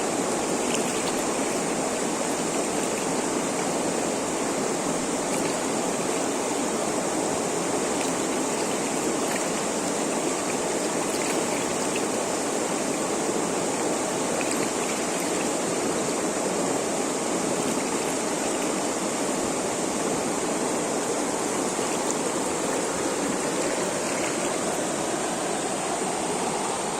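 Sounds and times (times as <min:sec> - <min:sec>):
river rushing over waterfall: 0:00.0 - 0:26.9.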